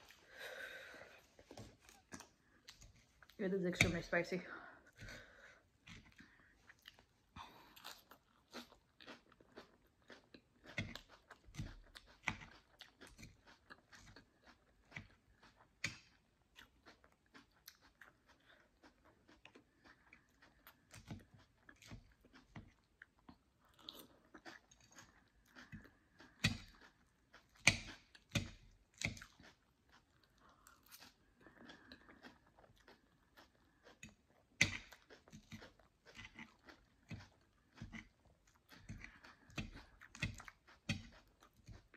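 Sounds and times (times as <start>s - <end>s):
chewing and crunching food: 0.0s - 41.9s.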